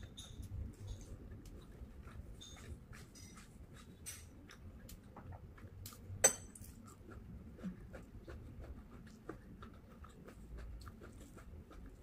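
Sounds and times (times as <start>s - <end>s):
soft chewing with mouth clicks: 0.0s - 12.0s.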